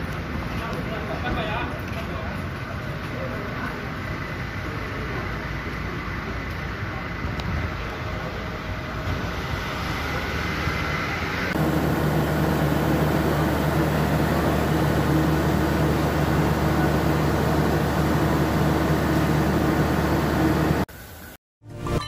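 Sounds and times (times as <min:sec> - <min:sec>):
vehicle and street noise: 0:00.0 - 0:22.0
low mechanical hum: 0:03.6 - 0:21.4.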